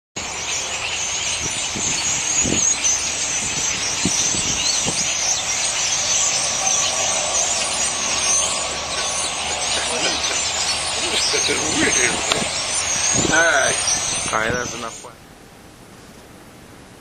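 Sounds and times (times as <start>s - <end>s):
flock of birds chirping: 0.2s - 15.1s.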